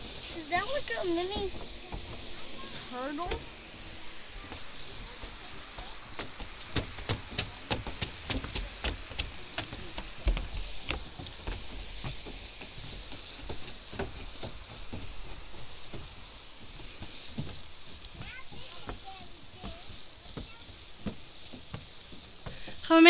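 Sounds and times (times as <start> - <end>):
footsteps on wooden stairs: 0.0 - 23.0.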